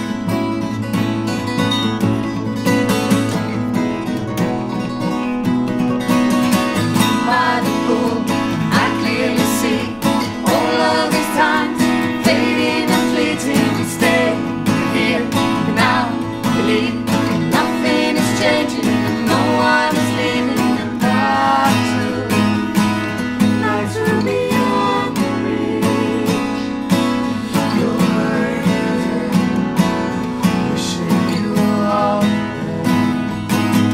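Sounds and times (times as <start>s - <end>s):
acoustic guitars playing: 0.0s - 33.9s.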